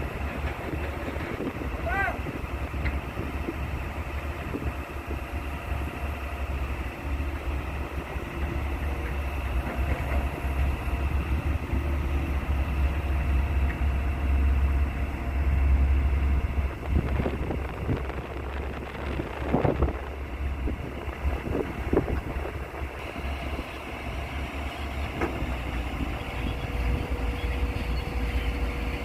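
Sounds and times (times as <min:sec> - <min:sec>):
heavy machine engine rumbling: 0:00.0 - 0:29.0.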